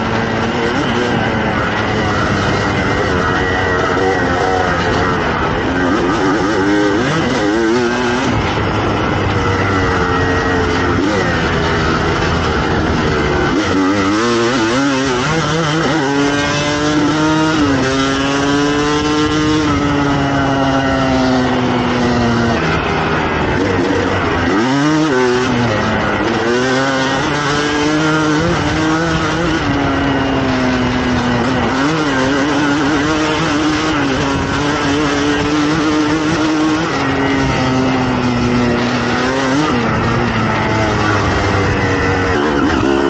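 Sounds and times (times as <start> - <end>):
two-stroke motorcycle engine revving: 0.0 - 43.0.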